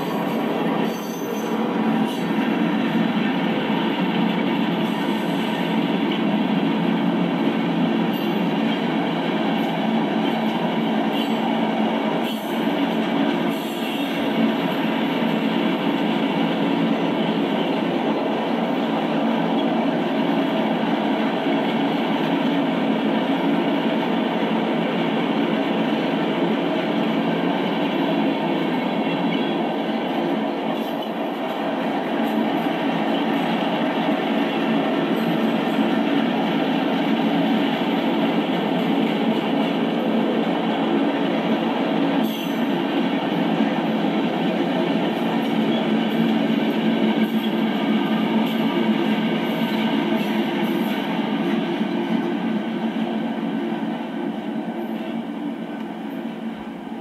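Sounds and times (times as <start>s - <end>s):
rattle of train cars: 0.0s - 57.0s
steel wheels on rail: 0.0s - 57.0s.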